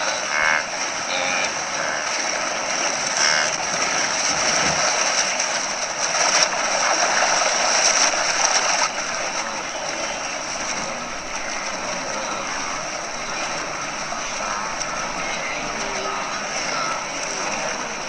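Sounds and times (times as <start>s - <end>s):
animals splashing through water: 0.0s - 18.0s.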